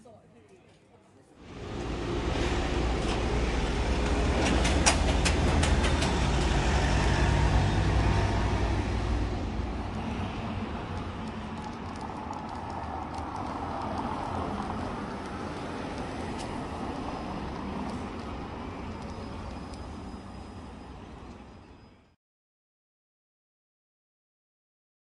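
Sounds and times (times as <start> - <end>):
road traffic hum: 1.4 - 22.1.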